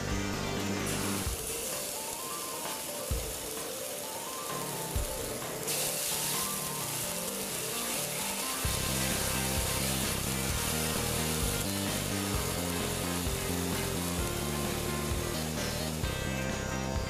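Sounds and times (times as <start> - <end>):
background music with bass line: 0.0 - 1.6, 4.6 - 17.0
loud sizzling hiss: 0.0 - 17.0.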